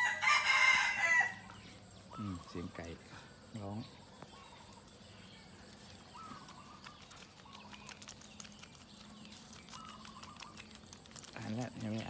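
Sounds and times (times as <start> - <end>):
faint bird calls: 0.8 - 12.0.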